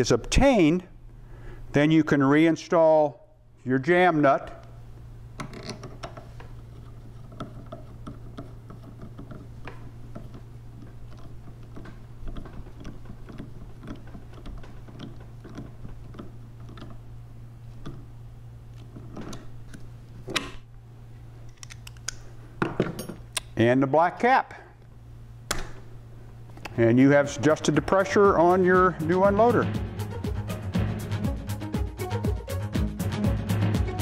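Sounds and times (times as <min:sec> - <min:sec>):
steady low hum: 0:00.0 - 0:32.6.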